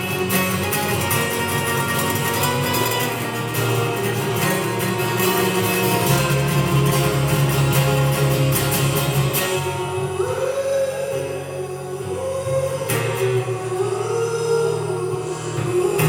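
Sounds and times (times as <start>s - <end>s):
instrumental guitar music: 0.0s - 16.0s.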